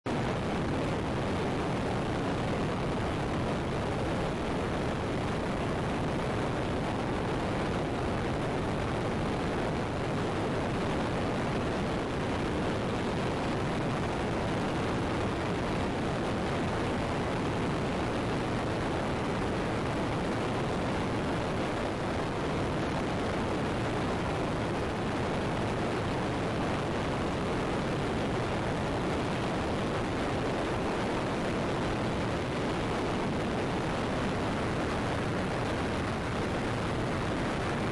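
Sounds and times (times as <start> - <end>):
wind rushing on microphone: 0.1 - 37.9.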